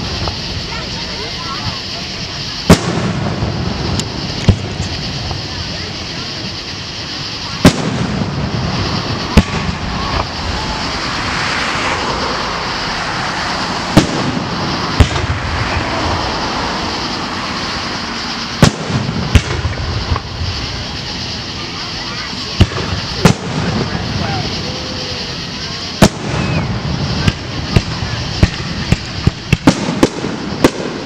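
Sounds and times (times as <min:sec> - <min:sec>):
firework shells bursting: 0:00.0 - 0:31.0
steady background noise: 0:00.0 - 0:31.0.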